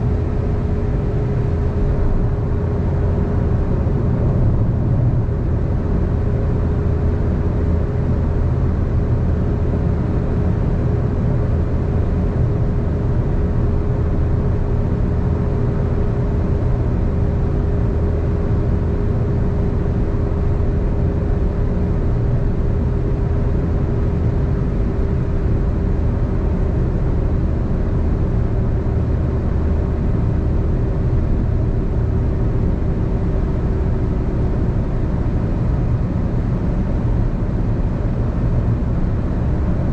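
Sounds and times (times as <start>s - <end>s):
faint steady whine: 0.0s - 39.9s
low engine hum: 0.0s - 39.9s.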